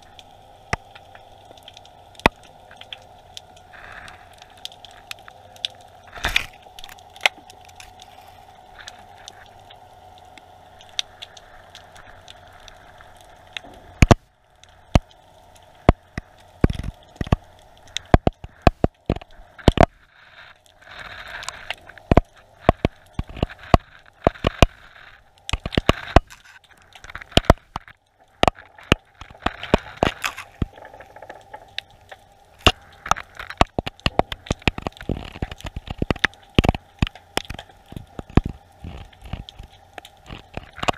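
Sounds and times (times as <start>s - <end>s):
faint steady hum: 0.0s - 40.9s
underwater clicks and crackles: 0.0s - 40.9s.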